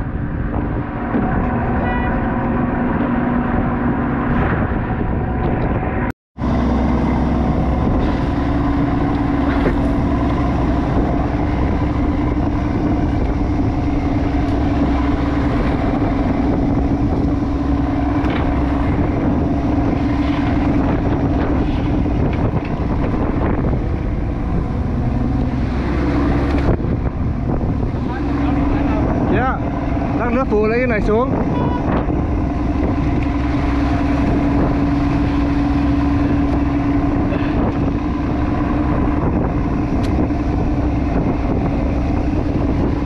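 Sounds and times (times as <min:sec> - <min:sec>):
boat engine humming: 0:00.0 - 0:43.0
wind and water rushing: 0:00.0 - 0:43.0.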